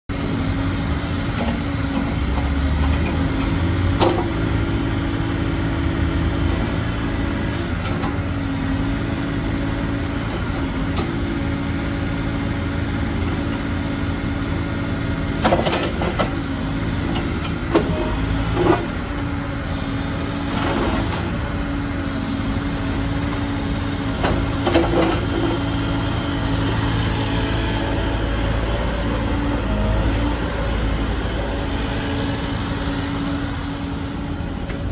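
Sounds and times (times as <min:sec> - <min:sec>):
diesel excavator running: 0:00.1 - 0:34.9.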